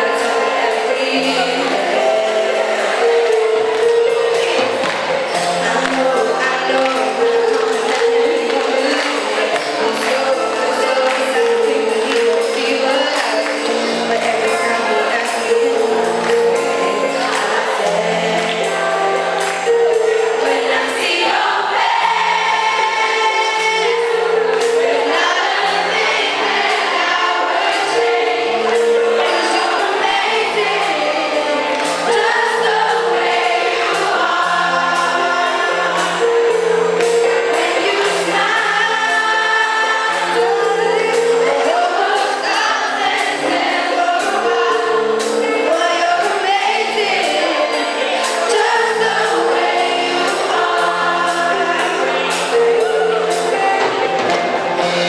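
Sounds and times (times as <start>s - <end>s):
group of voices singing: 0.0s - 55.0s
live band playing pop: 0.0s - 55.0s
percussion beat: 0.2s - 39.2s, 48.2s - 55.0s.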